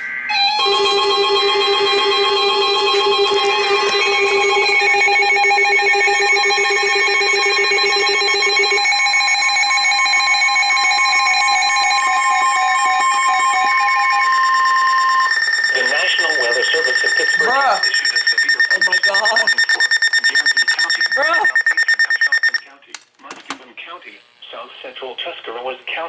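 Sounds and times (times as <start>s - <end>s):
steady high warning tone: 0.0s - 23.0s
beeping and warbling alarm tones: 0.0s - 23.6s.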